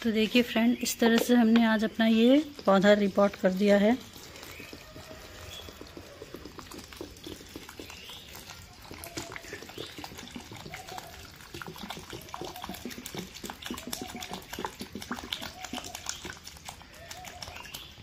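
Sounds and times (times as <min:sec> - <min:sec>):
soil bubbling and crackling: 0:00.0 - 0:18.0.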